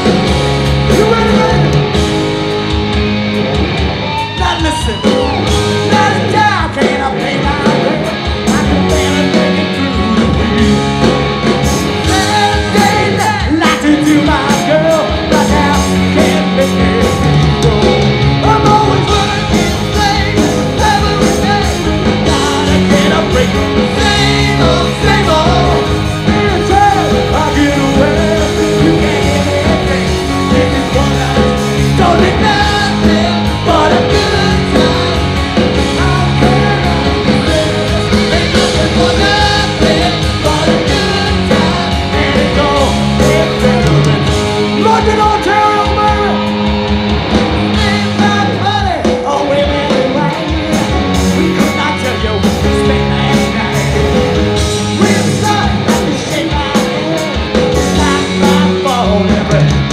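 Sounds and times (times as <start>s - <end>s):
man singing lead vocals: 0.0s - 2.8s, 4.1s - 46.8s, 47.6s - 59.9s
hard rock band playing: 0.0s - 59.9s.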